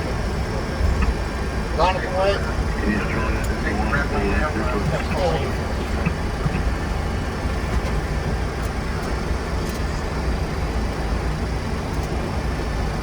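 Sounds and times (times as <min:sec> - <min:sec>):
aircraft engines rumbling in cockpit: 0:00.0 - 0:13.0.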